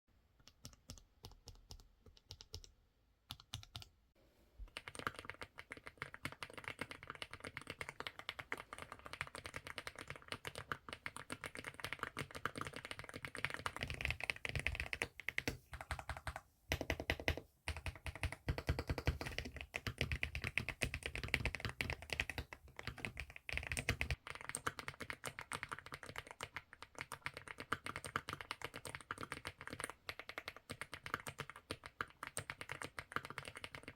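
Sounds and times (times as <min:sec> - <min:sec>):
mechanical keyboard typing: 0:00.5 - 0:02.7, 0:03.3 - 0:03.9, 0:04.7 - 0:33.9.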